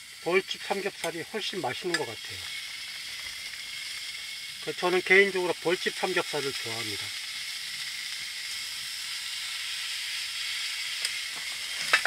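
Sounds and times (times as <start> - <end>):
pork belly sizzling in a pan: 0.0 - 12.0.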